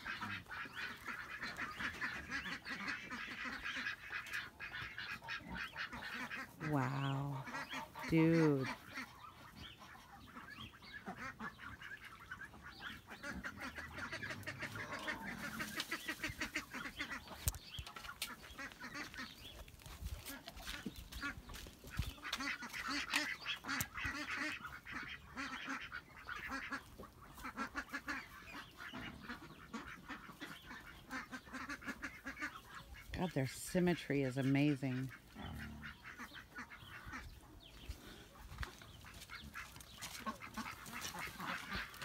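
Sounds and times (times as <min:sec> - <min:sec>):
poultry honking and quacking: 0:00.0 - 0:42.0.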